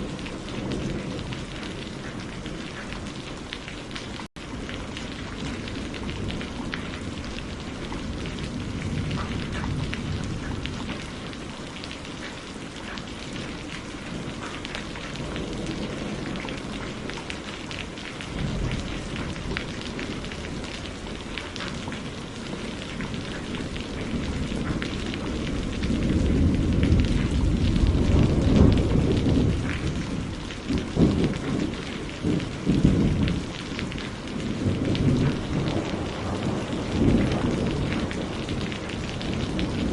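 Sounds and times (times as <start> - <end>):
rolling thunder: 0.0 - 3.8, 4.4 - 12.1, 12.7 - 39.9
rain pattering on a surface: 0.0 - 39.9.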